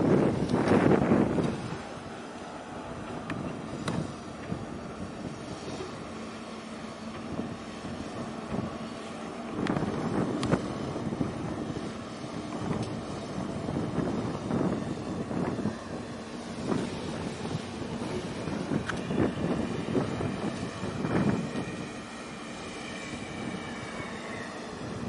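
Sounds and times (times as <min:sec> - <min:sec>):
ship engine drone: 0:00.0 - 0:25.0
wind gusting on microphone: 0:00.0 - 0:25.0.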